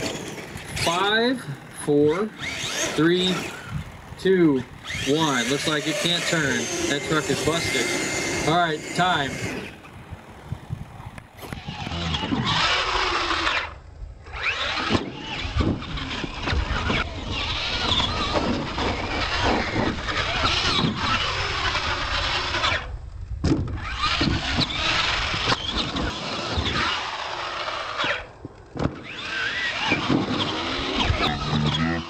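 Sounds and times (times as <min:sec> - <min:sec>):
tyres scrabbling on dirt: 0:00.0 - 0:22.9, 0:23.5 - 0:32.0
toy truck motors whining: 0:00.0 - 0:32.0.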